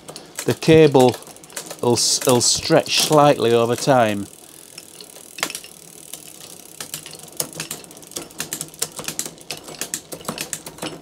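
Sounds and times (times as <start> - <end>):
rear derailleur ticking: 0.0 - 11.0.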